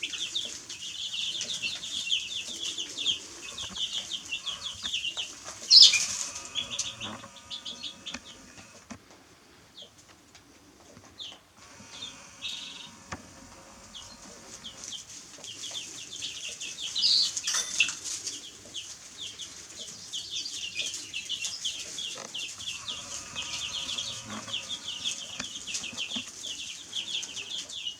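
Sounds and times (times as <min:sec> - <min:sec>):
baby chicks peeping: 0:00.0 - 0:27.9
rustle: 0:00.0 - 0:27.9.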